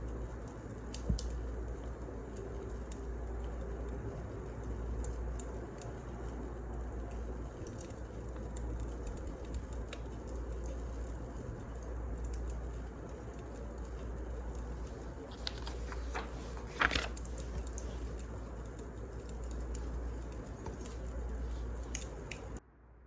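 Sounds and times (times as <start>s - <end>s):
wood fire crackling: 0.0s - 22.6s.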